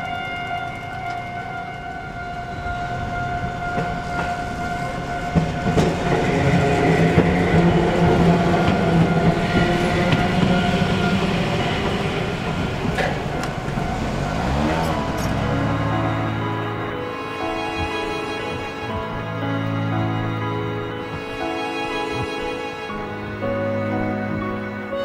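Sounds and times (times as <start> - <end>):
level crossing alarm bell: 0.0 - 25.0
tram motor hum: 0.0 - 25.0
tram wheels clacking on rail joints: 0.0 - 25.0.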